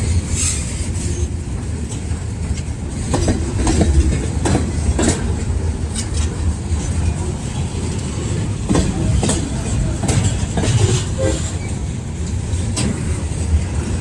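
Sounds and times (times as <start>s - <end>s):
wheels clicking over rail joints: 1.6s - 14.0s.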